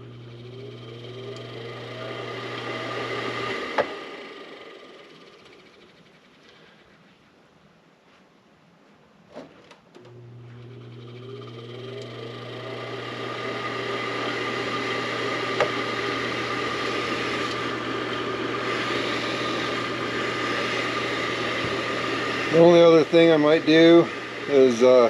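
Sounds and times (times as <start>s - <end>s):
furnace fan motor spinning up: 0.0s - 6.8s, 10.0s - 25.0s.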